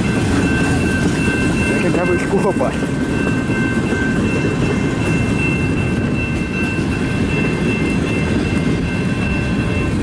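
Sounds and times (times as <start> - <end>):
freight train cars rumbling: 0.0 - 10.0
high-pitched tone: 0.0 - 10.0.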